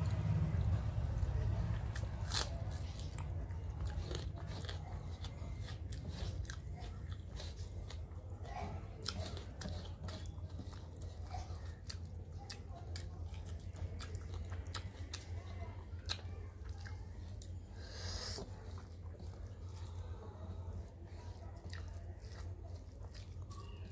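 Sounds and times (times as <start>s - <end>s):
steady low hum: 0.0s - 23.9s
wet chewing and smacking: 0.0s - 23.9s.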